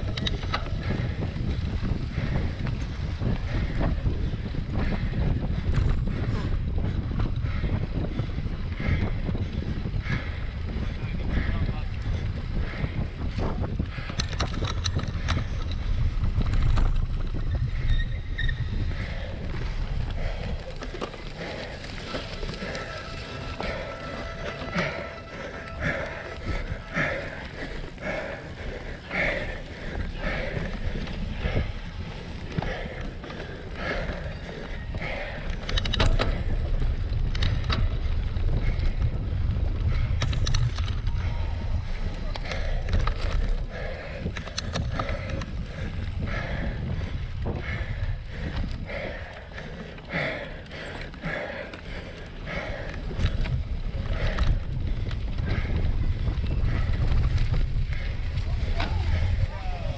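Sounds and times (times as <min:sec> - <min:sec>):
bike clicks and rattles: 0:00.0 - 0:59.9
bike riding over muddy ground: 0:00.0 - 0:59.9
heavy breathing: 0:00.0 - 0:59.9
wind rumbling on microphone: 0:00.0 - 0:59.9.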